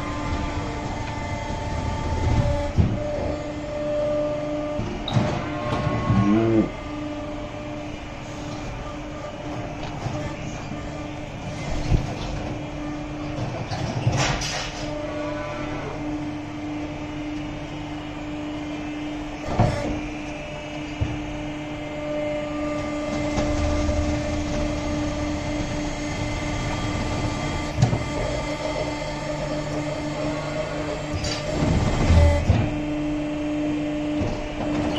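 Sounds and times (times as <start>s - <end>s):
machine motor hum: 0.0s - 34.9s.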